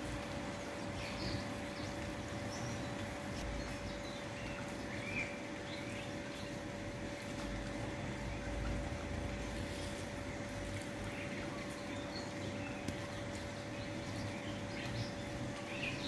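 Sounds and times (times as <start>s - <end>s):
faint hum: 0.0s - 16.0s
outdoor background hiss: 0.0s - 16.0s.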